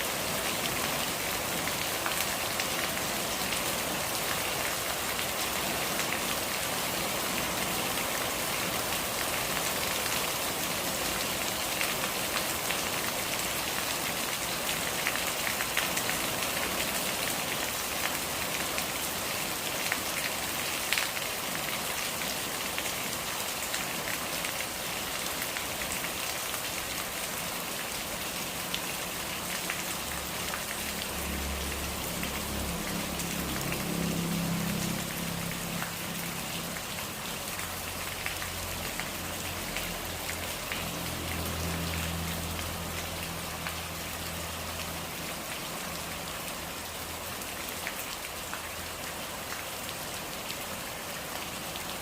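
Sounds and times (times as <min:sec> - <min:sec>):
rain drops hitting a surface: 0:00.0 - 0:52.0.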